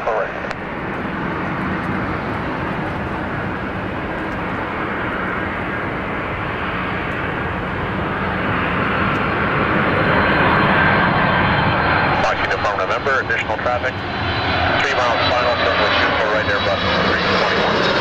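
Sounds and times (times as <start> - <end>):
jet engine noise with whine: 0.0 - 18.0.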